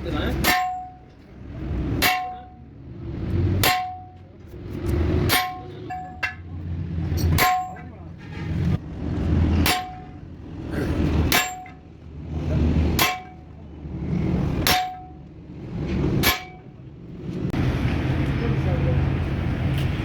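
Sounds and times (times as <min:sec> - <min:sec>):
low rumble: 0:00.0 - 0:20.0
hammer striking steel: 0:00.1 - 0:13.6, 0:14.4 - 0:16.9.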